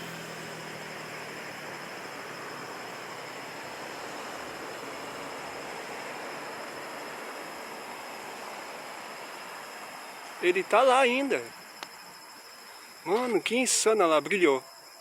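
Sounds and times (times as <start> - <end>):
steady hiss: 0.0 - 14.6
high-pitched insect chirr: 0.0 - 15.0.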